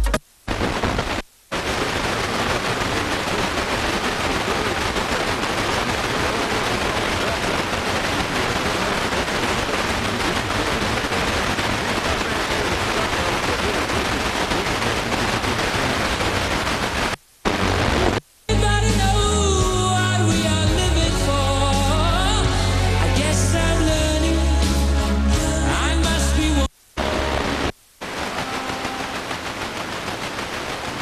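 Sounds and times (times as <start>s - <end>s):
radio static hiss: 0.0s - 20.6s, 25.4s - 31.0s.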